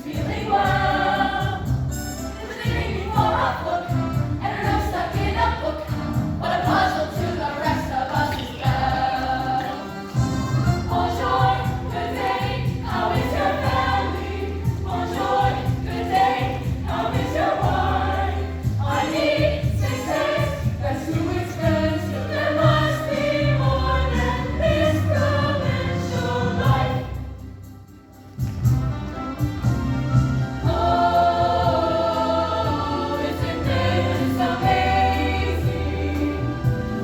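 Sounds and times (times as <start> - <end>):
choir singing in harmony: 0.0 - 27.7, 30.2 - 37.0.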